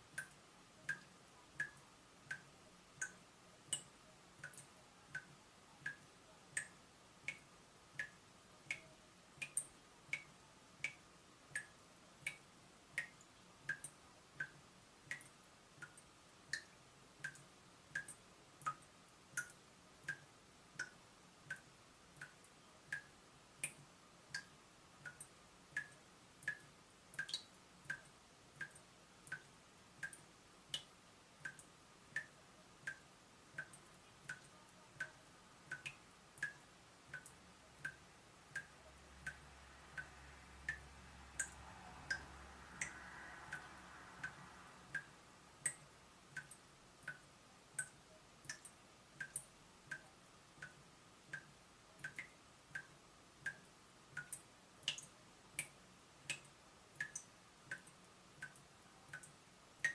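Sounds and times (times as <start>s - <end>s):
faint steady hiss: 0.0s - 59.9s
water dripping from tap: 0.1s - 59.9s.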